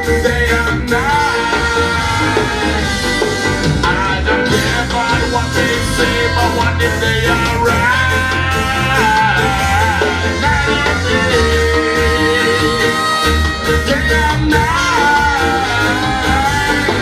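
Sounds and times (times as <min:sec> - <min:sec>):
live ska band playing: 0:00.0 - 0:17.0
steady bass line: 0:00.0 - 0:17.0.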